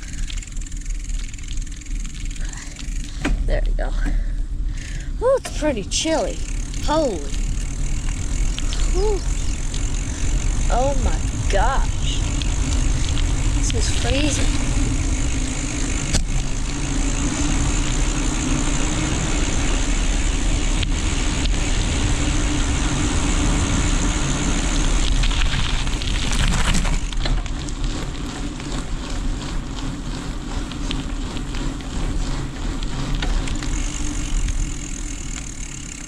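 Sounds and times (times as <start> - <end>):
rapid ticks: 0.0 - 3.2, 5.6 - 36.0
low rumble: 0.0 - 35.8.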